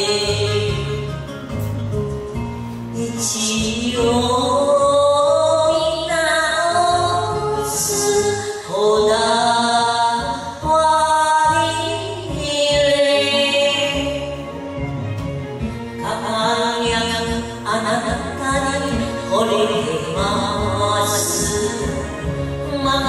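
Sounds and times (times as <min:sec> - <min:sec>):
woman singing into microphone: 0:00.0 - 0:01.8, 0:02.9 - 0:23.0
backing track music: 0:00.0 - 0:23.0.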